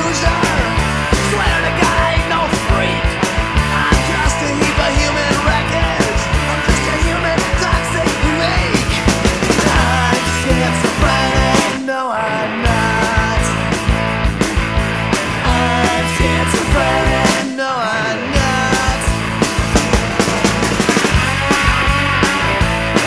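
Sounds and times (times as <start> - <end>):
driving drum beat: 0.0 - 11.9, 12.6 - 17.6, 18.3 - 23.0
loud rock music: 0.0 - 23.0.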